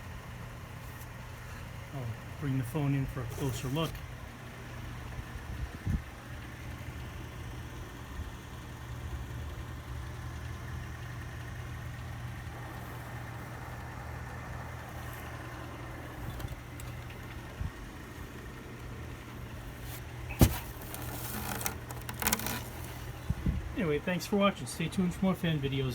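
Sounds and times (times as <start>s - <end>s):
ceiling fan running: 0.0s - 25.9s.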